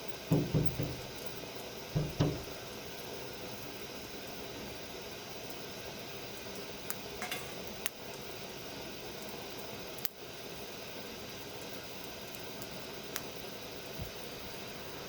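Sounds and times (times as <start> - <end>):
wood fire crackling and popping: 0.0 - 3.2, 5.4 - 14.4.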